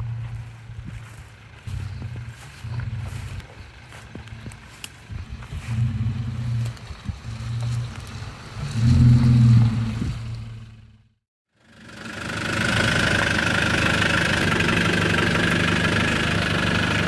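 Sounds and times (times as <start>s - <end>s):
pickup truck engine revving: 0.0s - 11.1s, 11.9s - 17.0s.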